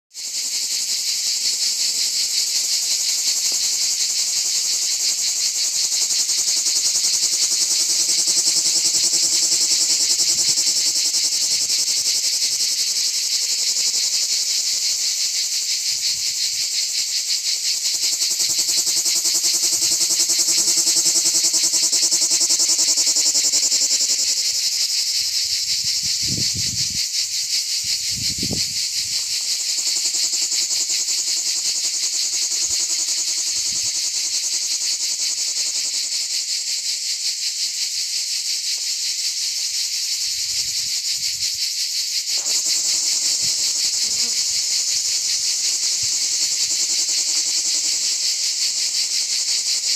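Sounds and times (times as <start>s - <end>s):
cicadas singing: 0.1s - 49.9s.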